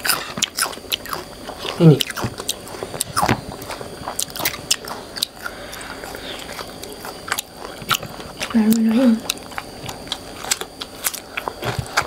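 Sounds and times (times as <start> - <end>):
crunchy chewing of fried chicken: 0.0 - 12.0.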